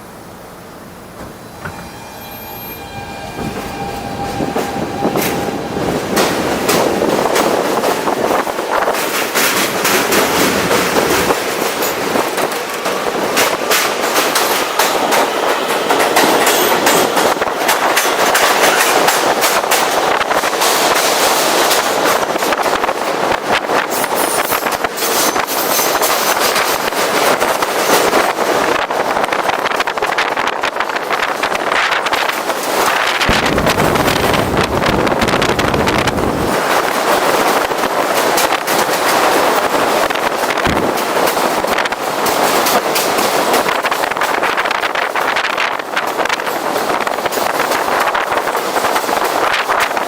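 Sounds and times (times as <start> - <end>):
train whine: 0.0 - 50.0
wheels on rail: 1.0 - 50.0
rail joints clicking: 3.4 - 50.0.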